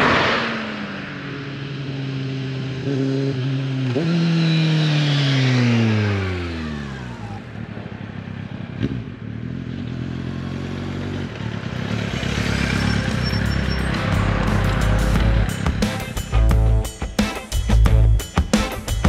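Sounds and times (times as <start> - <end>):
motorcycle passing by at speed: 0.0 - 15.9
engine rumble: 0.0 - 16.8.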